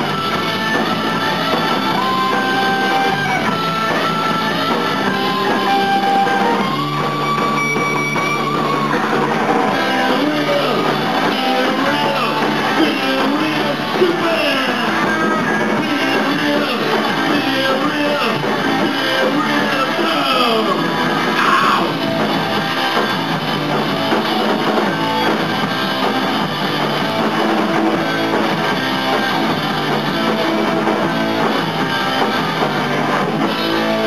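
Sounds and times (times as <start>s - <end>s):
electric guitar sustained notes: 0.0s - 34.0s
live rock band playing: 0.0s - 34.0s.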